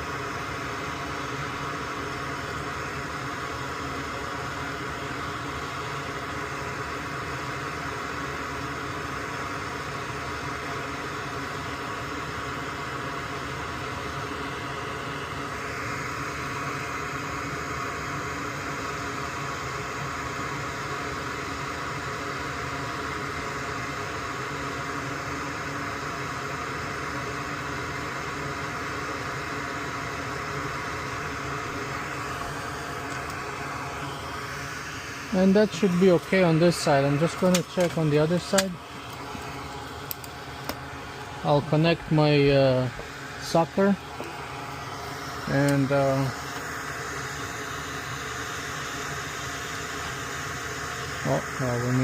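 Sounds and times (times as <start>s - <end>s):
small electric fan whirring: 0.0s - 52.0s.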